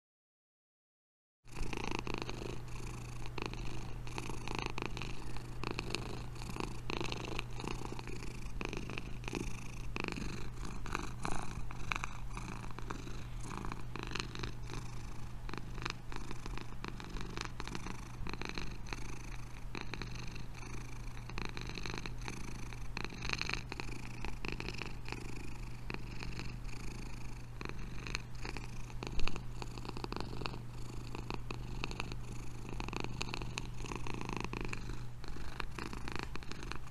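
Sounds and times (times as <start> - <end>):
cat purring: 1.5 - 36.9.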